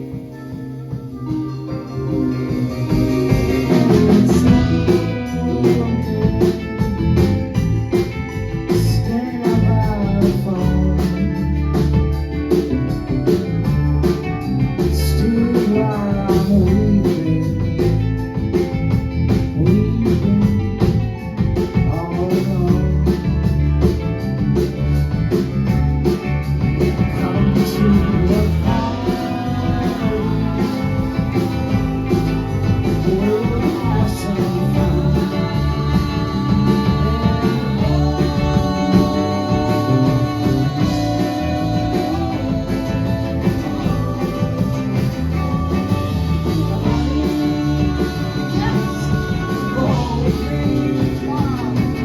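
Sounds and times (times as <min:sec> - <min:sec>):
bass: 0:00.0 - 0:52.0
drums beat: 0:00.0 - 0:52.0
guitar melody: 0:00.0 - 0:52.0.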